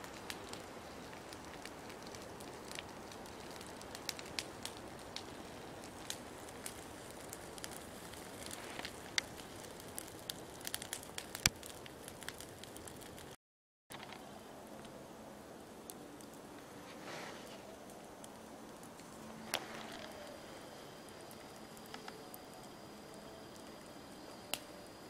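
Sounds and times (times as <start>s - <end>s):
fire hiss: 0.0s - 13.4s, 14.0s - 25.0s
fire pops: 0.0s - 15.0s, 15.8s - 25.0s
campfire crackling: 0.0s - 25.0s.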